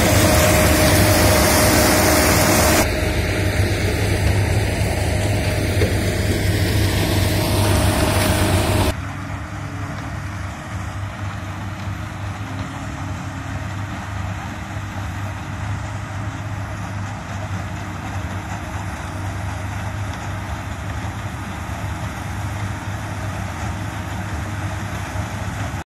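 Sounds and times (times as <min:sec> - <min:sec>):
harvester and tractor engine drone: 0:00.0 - 0:25.8.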